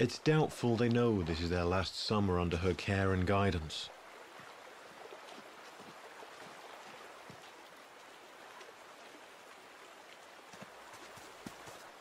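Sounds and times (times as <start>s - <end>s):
river running over gravel: 0.0s - 12.0s.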